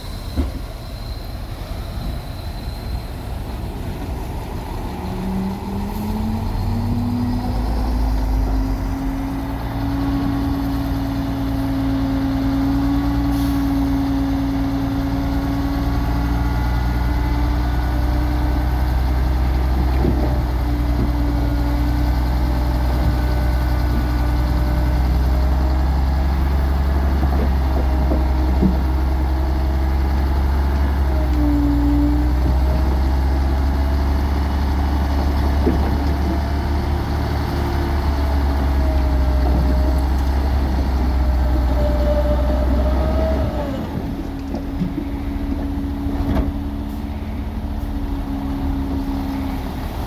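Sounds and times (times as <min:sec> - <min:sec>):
diesel engine revving: 0:03.2 - 0:50.0.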